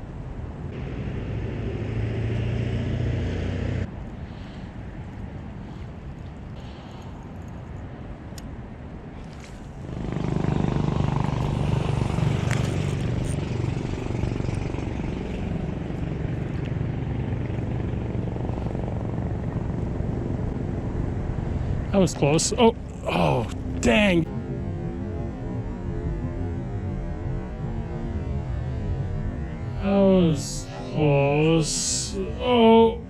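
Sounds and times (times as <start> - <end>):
road traffic rumble: 0.0 - 32.9.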